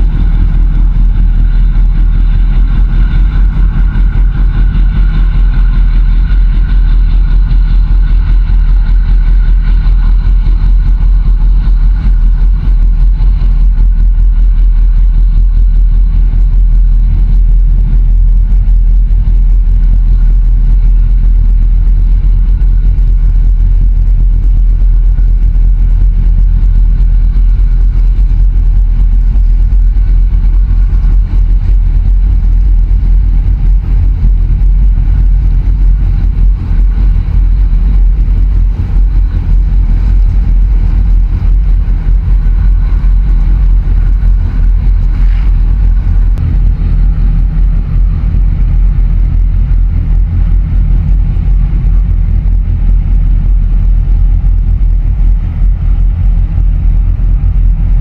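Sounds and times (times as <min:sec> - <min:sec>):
boat engine rumbling: 0:00.0 - 0:58.0
faint high whine: 0:00.0 - 0:58.0.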